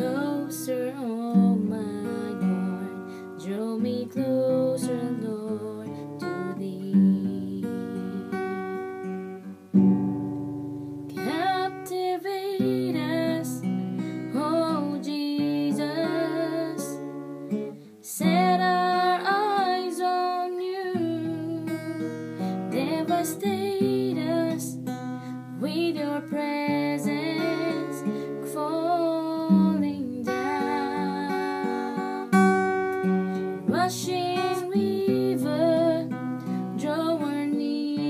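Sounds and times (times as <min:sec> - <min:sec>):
woman singing: 0:00.0 - 0:08.8, 0:11.1 - 0:17.3, 0:18.0 - 0:38.0
acoustic guitar strummed: 0:00.0 - 0:38.0.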